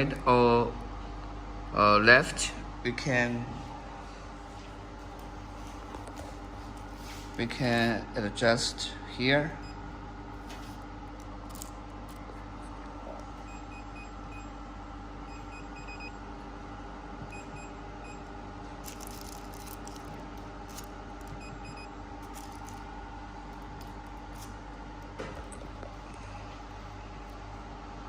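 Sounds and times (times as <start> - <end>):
steady machine hum: 0.0 - 28.0.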